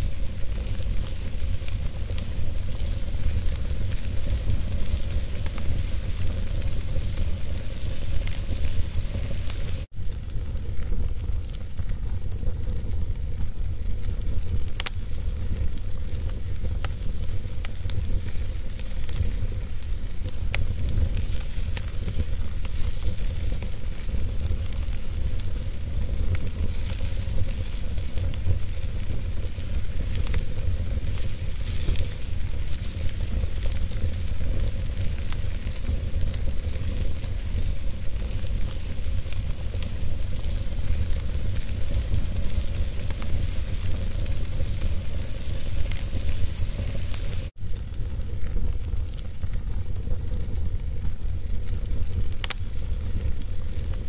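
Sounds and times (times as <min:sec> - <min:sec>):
low fire rumble: 0:00.0 - 0:54.0
wood fire crackling and popping: 0:00.0 - 0:54.0.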